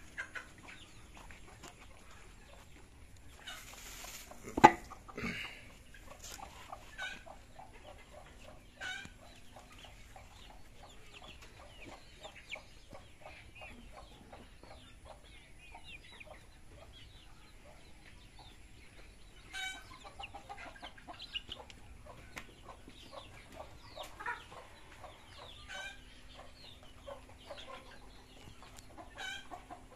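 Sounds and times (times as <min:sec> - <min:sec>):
hens clucking: 0:00.0 - 0:29.9.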